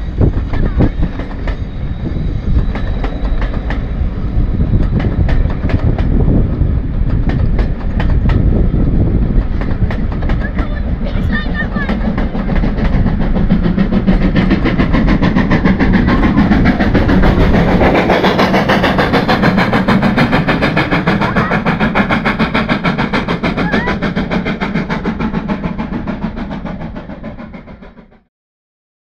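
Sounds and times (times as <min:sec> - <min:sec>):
train passing with wheel clatter: 0:00.0 - 0:28.3.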